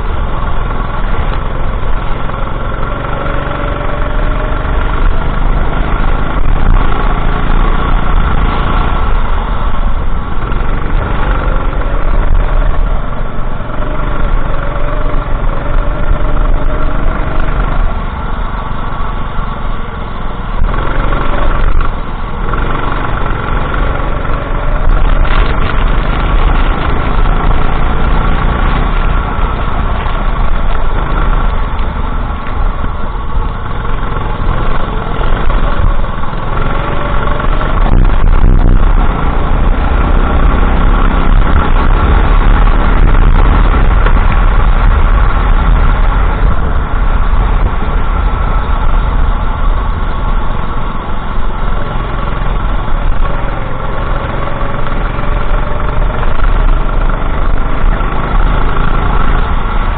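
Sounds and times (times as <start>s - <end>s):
go-kart engine racing: 0.0s - 59.9s.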